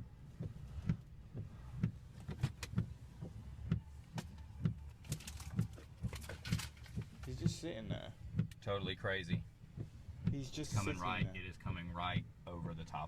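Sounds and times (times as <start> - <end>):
rhythmic low thumping: 0.0 - 13.0.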